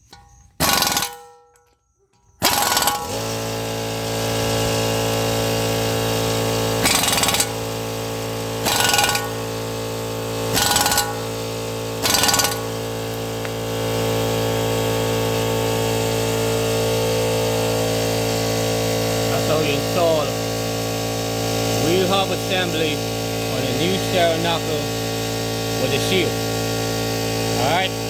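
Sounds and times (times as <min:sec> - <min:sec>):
impact wrench bursts: 0:00.0 - 0:28.0.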